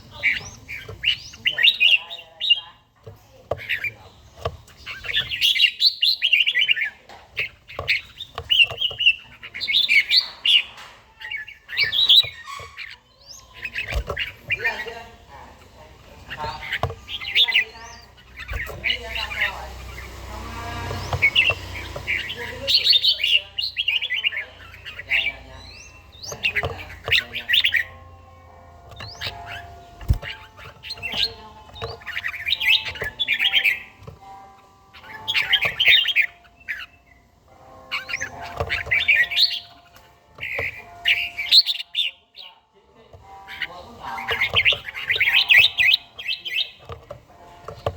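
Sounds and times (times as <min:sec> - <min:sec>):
bird chattering song: 0:00.0 - 0:47.9.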